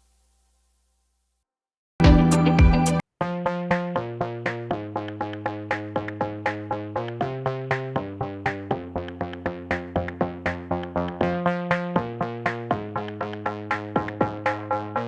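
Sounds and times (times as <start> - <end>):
electronic synthesizer chords: 2.0 - 15.0.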